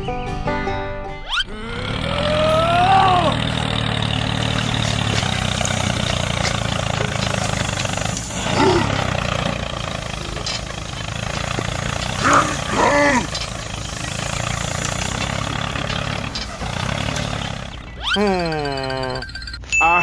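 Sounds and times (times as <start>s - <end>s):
tractor engine droning: 1.3s - 19.6s.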